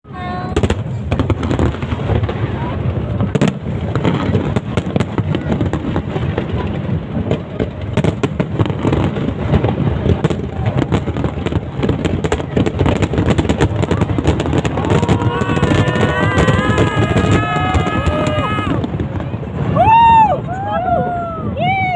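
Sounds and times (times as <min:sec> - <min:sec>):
low fireworks booming: 0:00.1 - 0:21.9
fireworks pops and crackles: 0:00.2 - 0:20.7.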